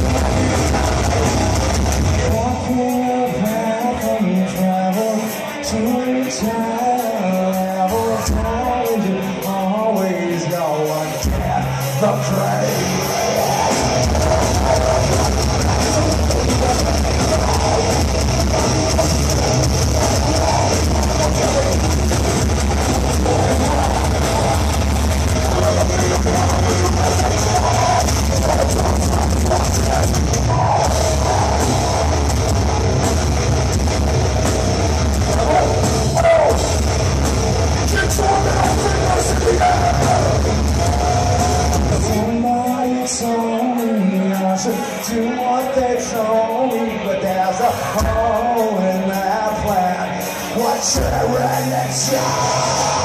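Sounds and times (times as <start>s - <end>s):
distorted guitars: 0.0s - 53.0s
heavy drums: 0.0s - 53.0s
live heavy metal band: 0.0s - 53.0s.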